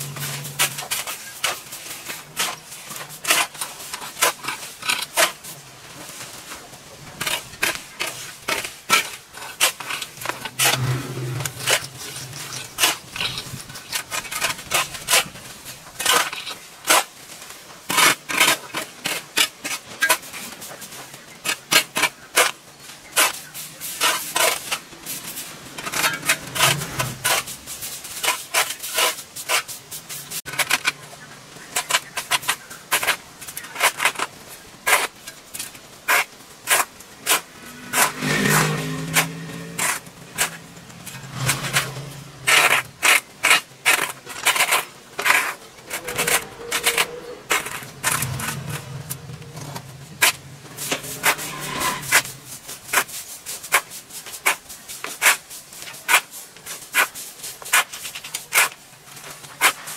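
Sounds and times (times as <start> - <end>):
scraping clicking and knocking: 6.1 - 17.2, 17.8 - 59.9.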